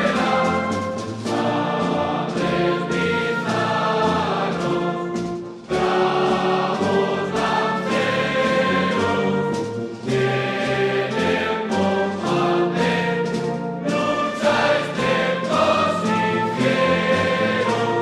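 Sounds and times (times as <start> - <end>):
choir singing sustained chords: 0.0 - 18.0
orchestra playing: 0.0 - 18.0.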